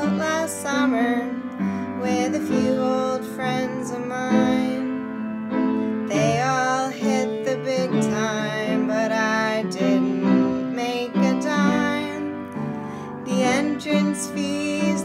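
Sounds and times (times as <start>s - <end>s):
woman singing folk song: 0.0s - 5.2s, 5.9s - 15.0s
piano: 0.0s - 15.0s.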